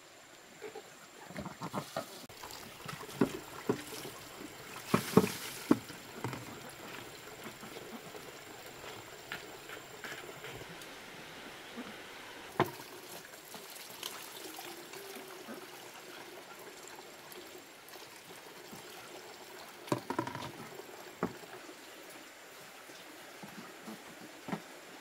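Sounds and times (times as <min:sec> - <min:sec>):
water pouring and trickling: 0:01.4 - 0:25.0.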